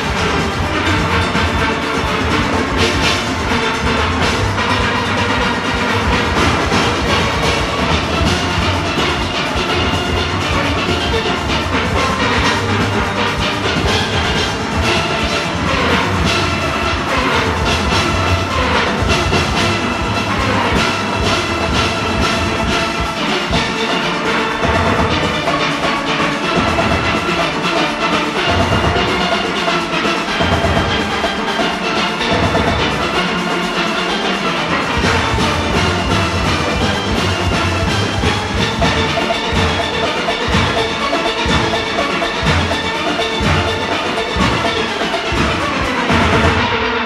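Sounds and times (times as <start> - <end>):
bass pans pulsing: 0.0 - 31.4, 32.0 - 46.7
percussion beat: 0.0 - 47.0
steel pans playing: 0.0 - 47.0.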